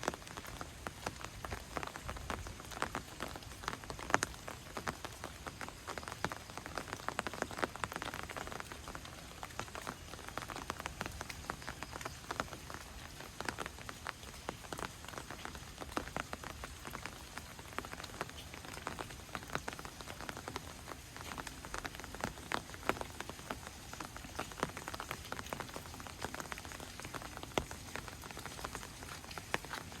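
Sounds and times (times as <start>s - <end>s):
light rain pattering: 0.0s - 30.0s.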